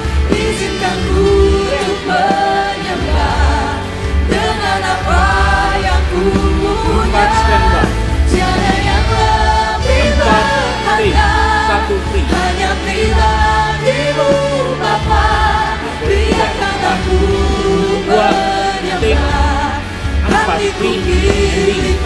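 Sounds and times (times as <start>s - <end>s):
lead singer singing: 0.0s - 22.0s
steady bass: 0.0s - 22.0s
worship band playing: 0.0s - 22.0s
backing vocals: 0.3s - 22.0s.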